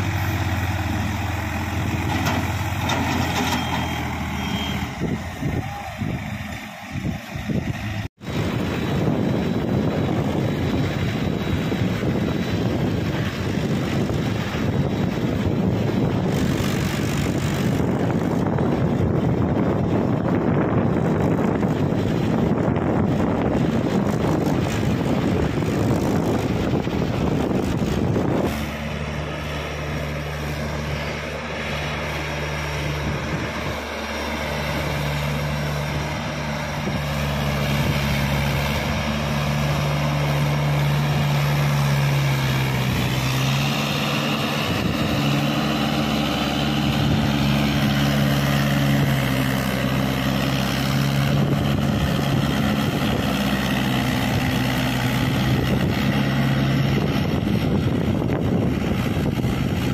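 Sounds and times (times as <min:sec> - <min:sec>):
heavy wind noise: 0:00.0 - 0:59.9
tractor engine under load: 0:00.0 - 0:59.9.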